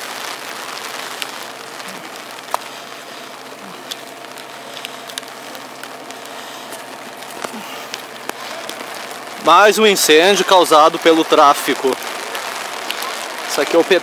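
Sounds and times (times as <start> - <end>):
rain on wet street: 0.0 - 14.0.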